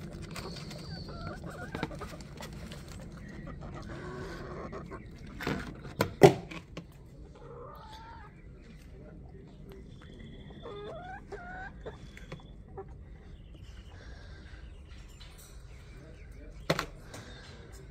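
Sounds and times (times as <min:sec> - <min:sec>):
hens clucking: 0:00.0 - 0:17.9.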